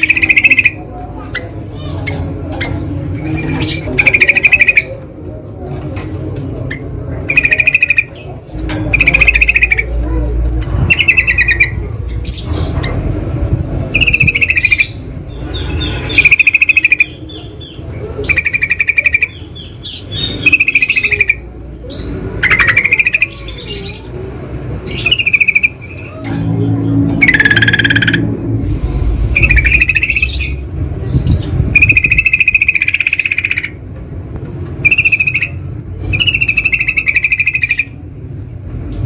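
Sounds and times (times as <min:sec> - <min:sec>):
birds singing trilled phrases: 0:00.0 - 0:05.0, 0:06.6 - 0:33.9, 0:34.8 - 0:39.0
low background rumble: 0:00.0 - 0:39.0.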